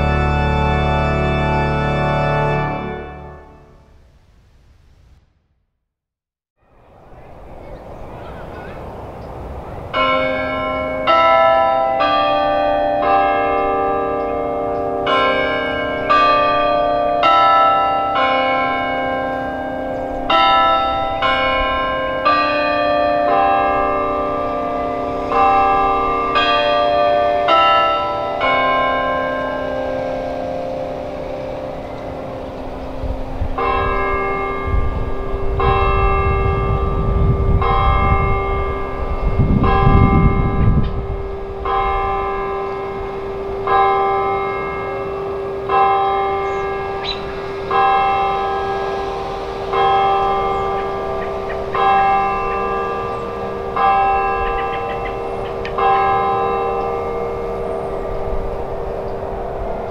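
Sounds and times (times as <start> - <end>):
church bell tolling: 0.0 - 3.8, 6.6 - 59.9.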